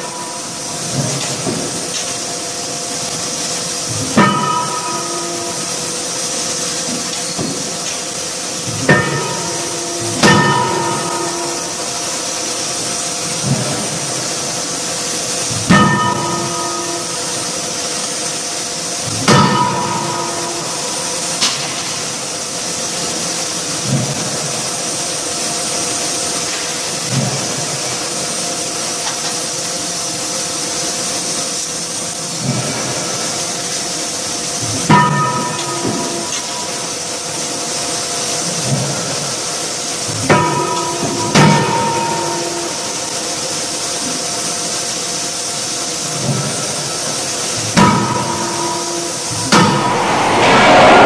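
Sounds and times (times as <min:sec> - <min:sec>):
hydraulic hammer hum and hiss: 0:00.0 - 0:42.9.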